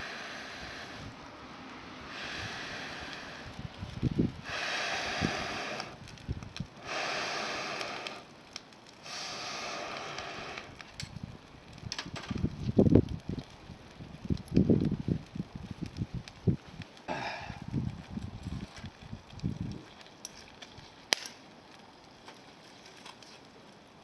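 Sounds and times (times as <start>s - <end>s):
air blown onto a fire: 0.0s - 21.3s
fire crackling and knocks: 0.0s - 24.0s.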